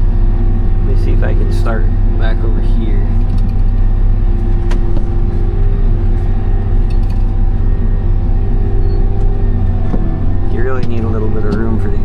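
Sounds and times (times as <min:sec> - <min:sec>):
combine engine running: 0:00.0 - 0:12.0.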